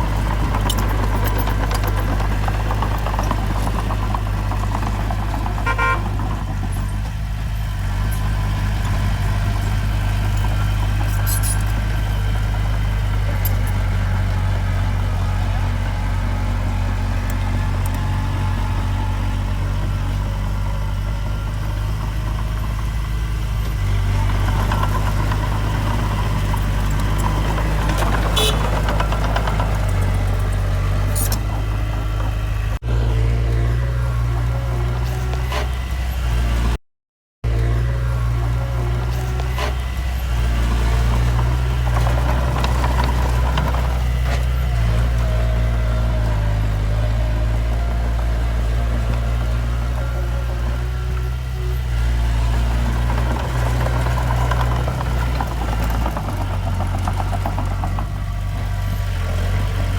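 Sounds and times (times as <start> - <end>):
diesel engine of heavy machinery: 0.0 - 36.8, 37.4 - 59.9.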